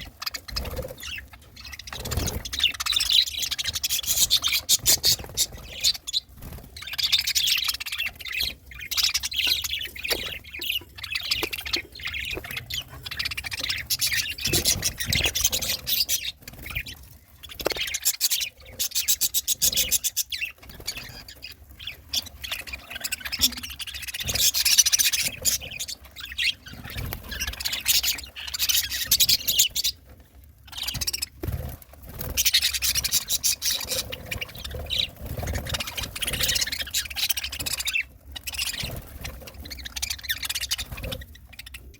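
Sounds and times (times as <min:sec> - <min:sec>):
budgerigars chirping and chattering: 0:00.0 - 0:41.9.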